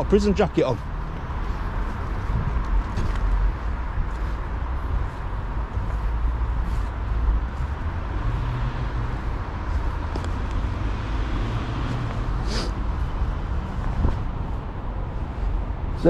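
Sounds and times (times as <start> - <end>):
vehicle motor rumbling: 0.0 - 16.0.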